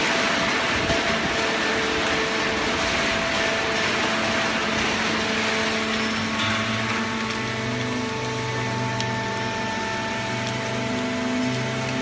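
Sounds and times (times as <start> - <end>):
baler machine running with hum: 0.0 - 12.0
deeper machine hum: 0.0 - 12.0.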